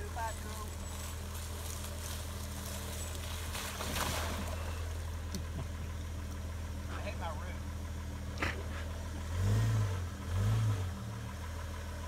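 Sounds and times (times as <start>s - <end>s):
car engine running low: 0.0s - 12.0s
water sloshing around tyres: 0.0s - 12.0s.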